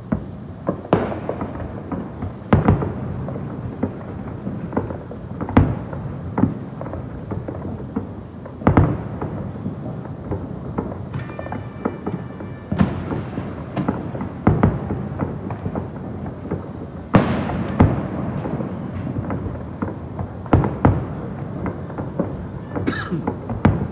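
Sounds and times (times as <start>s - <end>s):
firework booms and cracks: 0.0s - 23.9s.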